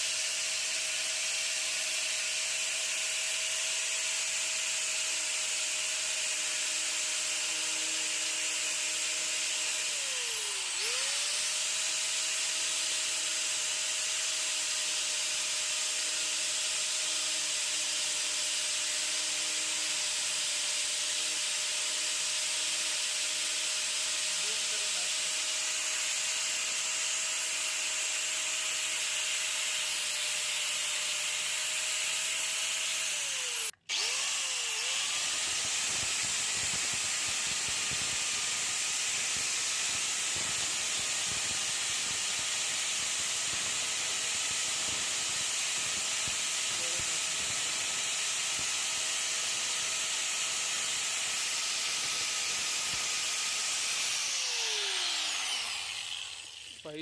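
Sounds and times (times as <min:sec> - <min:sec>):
angle grinder whining: 0:00.0 - 0:57.0.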